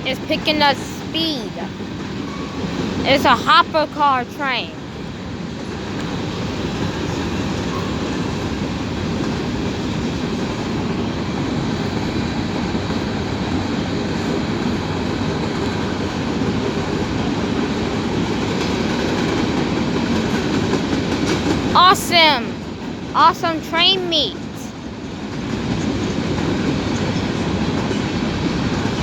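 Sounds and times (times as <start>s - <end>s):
freight train rolling past: 0.0s - 29.0s.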